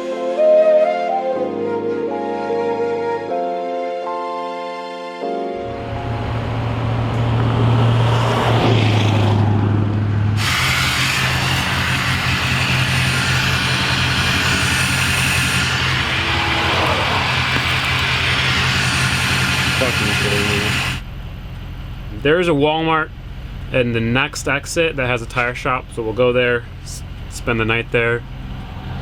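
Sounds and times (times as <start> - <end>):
road and traffic noise: 5.6 - 29.0
vehicle engine drone: 5.6 - 29.0.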